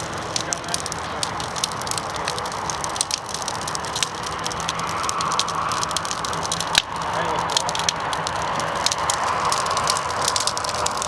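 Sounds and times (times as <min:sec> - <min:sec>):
bonfire flames rushing: 0:00.0 - 0:11.0
wood crackling and popping: 0:00.0 - 0:11.0.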